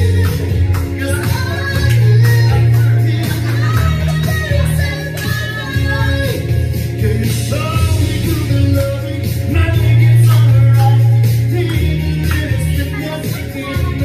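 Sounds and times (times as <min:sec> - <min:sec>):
amplified pop backing track: 0:00.0 - 0:14.0
man singing into microphone: 0:00.0 - 0:14.0.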